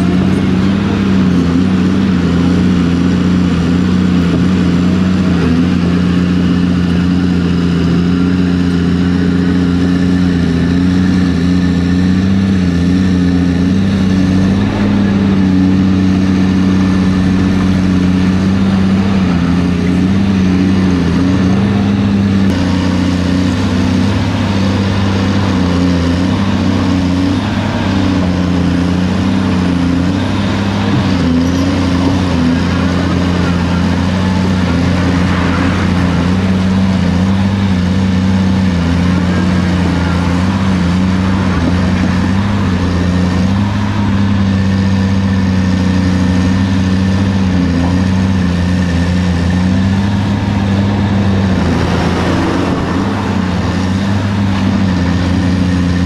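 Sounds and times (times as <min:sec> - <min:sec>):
excavator diesel engine drone: 0:00.0 - 0:56.0.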